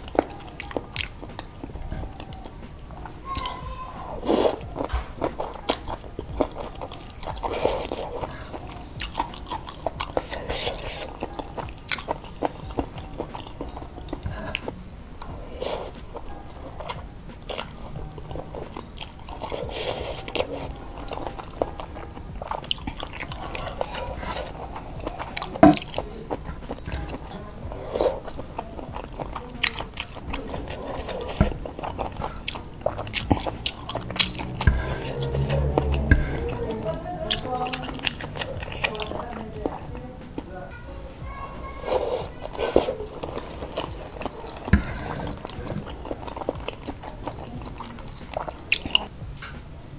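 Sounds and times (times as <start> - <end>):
noodles slurped: 0.0 - 40.5, 41.6 - 49.2
soft vegetable crunches: 0.0 - 49.9
wet chewing smacks: 0.0 - 49.9.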